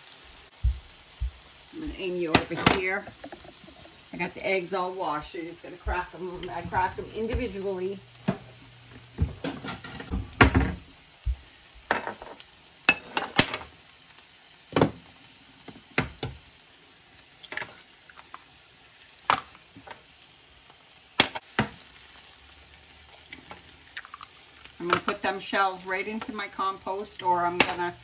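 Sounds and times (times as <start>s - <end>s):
faint frying sizzle: 0.0s - 28.0s.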